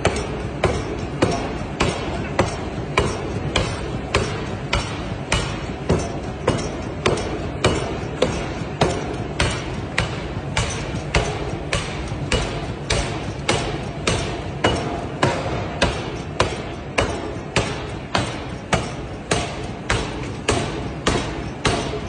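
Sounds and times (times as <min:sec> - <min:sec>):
forging hammer striking metal: 0:00.0 - 0:22.0.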